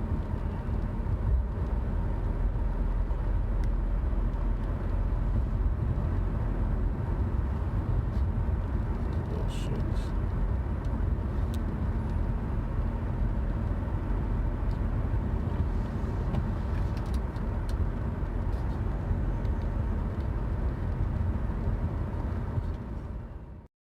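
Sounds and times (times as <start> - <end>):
car road and engine rumble: 0.0 - 23.7.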